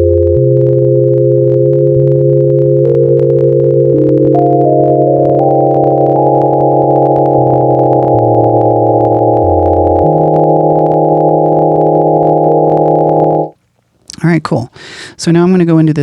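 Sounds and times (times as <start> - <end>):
sub-bass notes: 0.0 - 13.5
held synth chord: 0.0 - 13.6.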